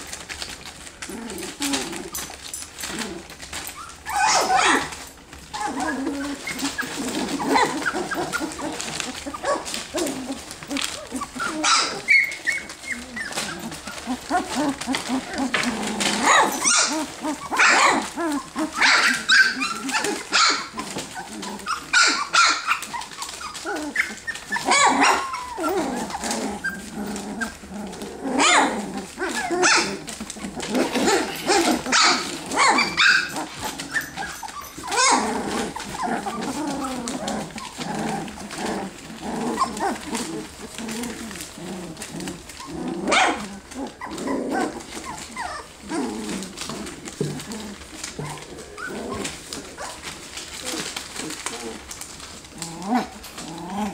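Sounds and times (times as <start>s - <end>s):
puppies play growling: 0.0s - 53.9s
puppies yipping and barking: 0.0s - 53.9s.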